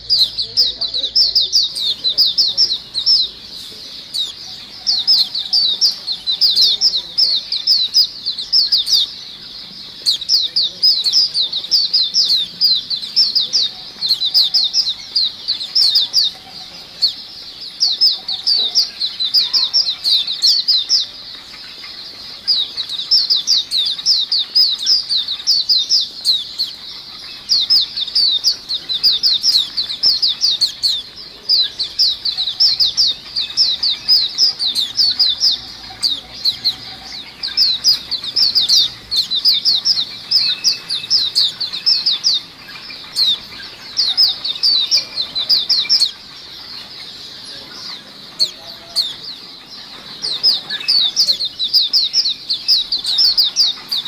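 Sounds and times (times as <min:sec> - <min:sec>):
small birds chattering: 0:00.0 - 0:54.0.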